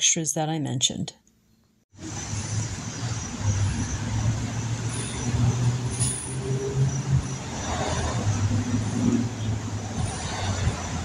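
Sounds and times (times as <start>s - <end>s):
street traffic rumble: 1.9s - 11.0s.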